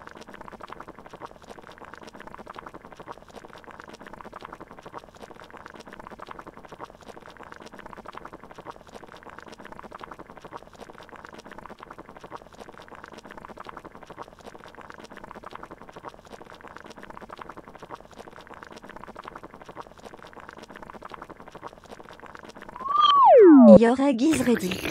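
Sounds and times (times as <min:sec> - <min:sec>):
water boiling in a pot: 0:00.0 - 0:22.8.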